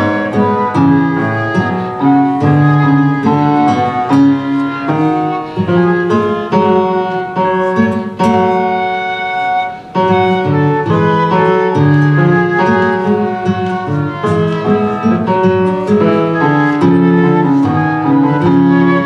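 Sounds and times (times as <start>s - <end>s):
small ensemble playing baroque music: 0.0s - 19.0s.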